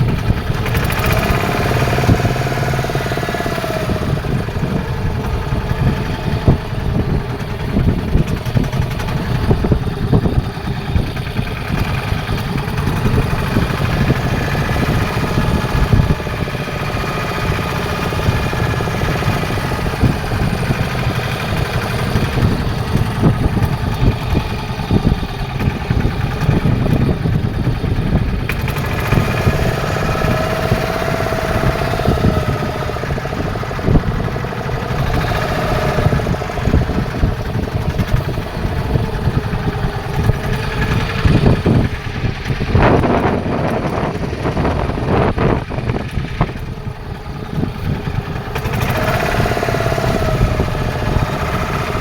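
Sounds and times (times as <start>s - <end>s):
boat engine rumbling: 0.0s - 52.0s.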